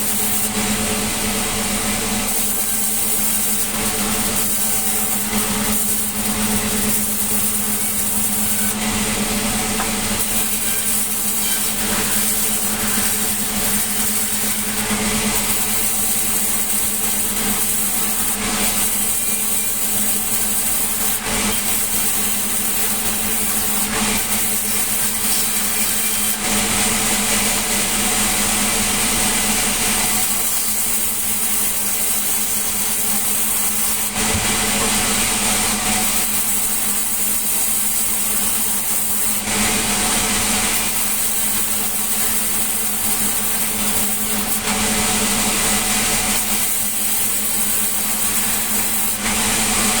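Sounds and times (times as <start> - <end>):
sawmill saw cutting wood: 0.0 - 50.0.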